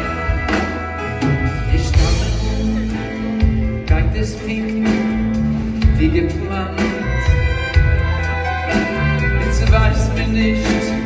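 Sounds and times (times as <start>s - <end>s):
keyboards: 0.0s - 11.0s
man singing: 0.0s - 11.0s.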